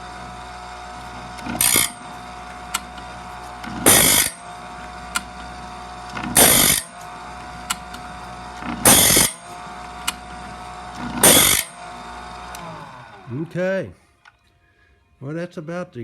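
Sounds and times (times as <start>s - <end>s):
grinding wheel on saw teeth: 0.0s - 13.5s
grinder motor whining: 0.0s - 13.7s.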